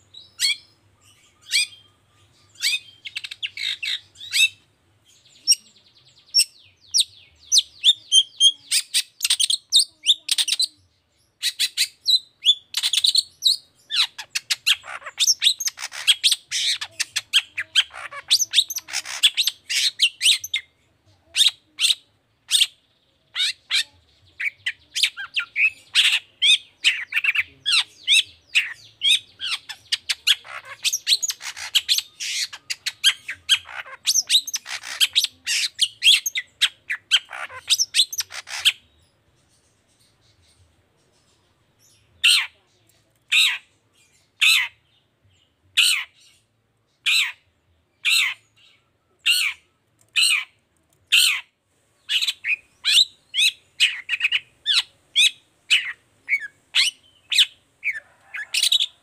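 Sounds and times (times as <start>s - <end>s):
bird singing harsh chatter: 0.0s - 59.0s.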